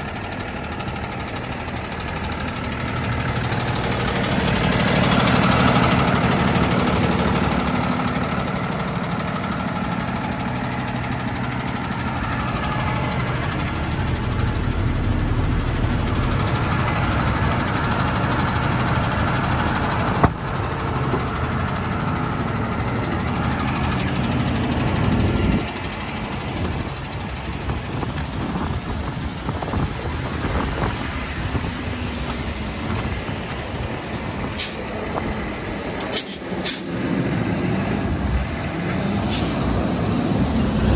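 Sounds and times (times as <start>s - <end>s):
diesel truck engine idling: 0.0s - 40.9s.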